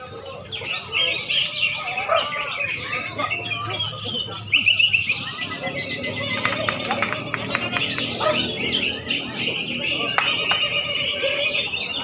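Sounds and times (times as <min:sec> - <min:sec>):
many songbirds singing: 0:00.0 - 0:12.0.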